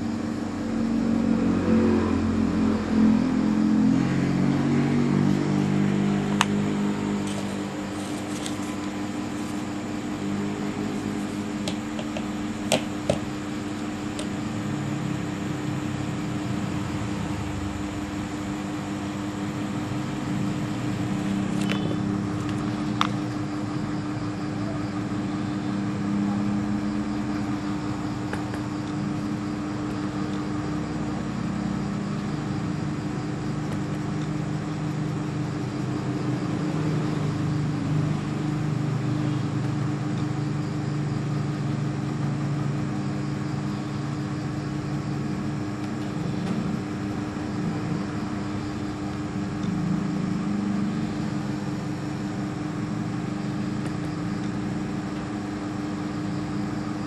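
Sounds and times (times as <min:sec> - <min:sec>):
machine hum with low rumble: 0:00.0 - 0:57.0.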